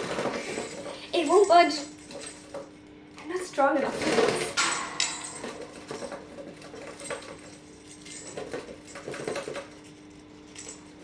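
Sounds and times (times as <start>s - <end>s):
clicks and knocks of cage parts: 0.0s - 11.0s.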